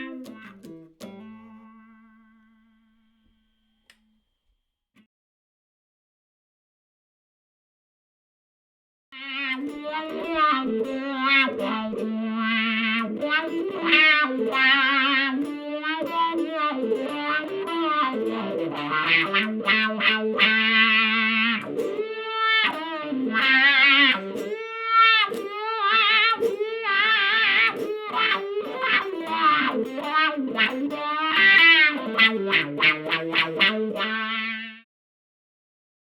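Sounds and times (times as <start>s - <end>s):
electric guitar lead line: 0.0s - 3.4s, 9.2s - 34.8s.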